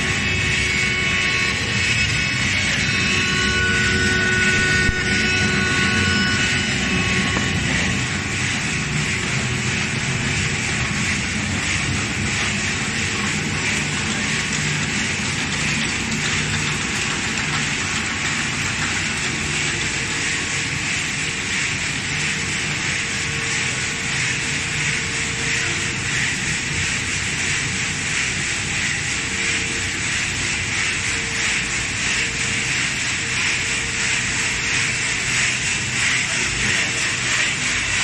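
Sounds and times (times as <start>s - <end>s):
machine motors and blower: 0.0s - 38.0s.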